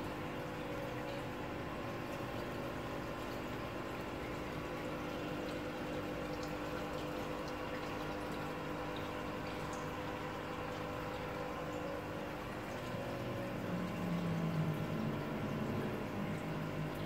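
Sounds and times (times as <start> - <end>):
tank pump hum: 0.0 - 17.0.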